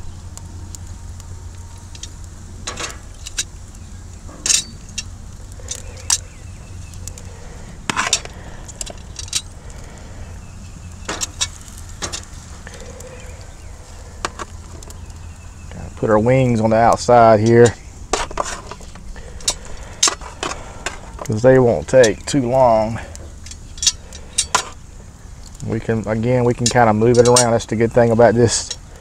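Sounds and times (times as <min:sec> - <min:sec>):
low rumble: 0:00.0 - 0:26.5
metal tongs clinking on grill grate: 0:01.7 - 0:09.8, 0:10.9 - 0:15.4, 0:16.2 - 0:24.8, 0:25.4 - 0:28.8.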